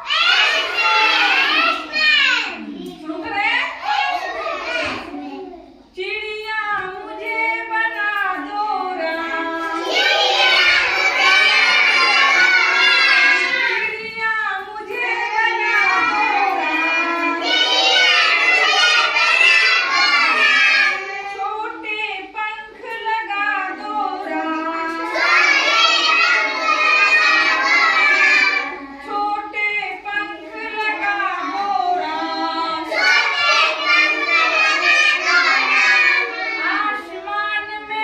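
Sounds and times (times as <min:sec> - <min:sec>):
children chanting a nursery poem: 0:00.0 - 0:38.0.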